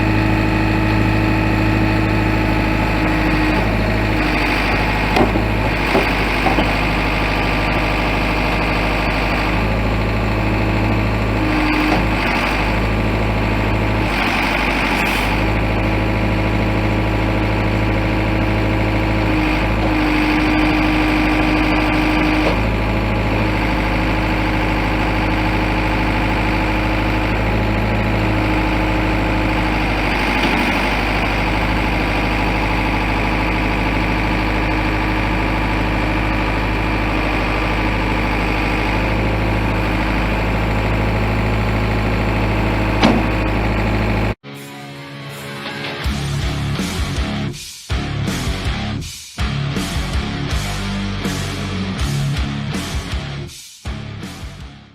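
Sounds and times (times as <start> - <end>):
diesel engine idling: 0.0 - 44.4.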